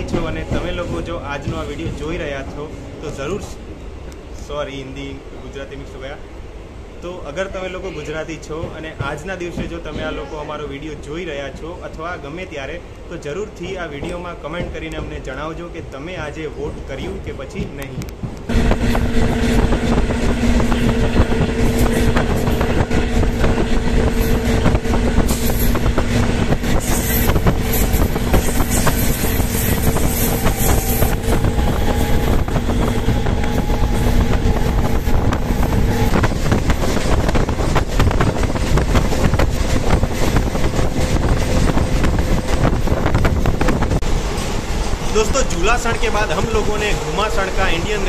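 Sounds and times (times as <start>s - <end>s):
train engine hum: 0.0s - 48.0s
train wheels rushing on rail: 0.0s - 48.0s.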